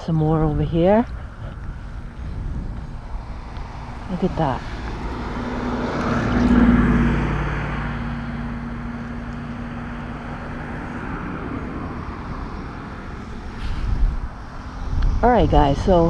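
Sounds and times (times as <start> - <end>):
engine droning: 0.0 - 16.0
low rumble: 0.0 - 16.0.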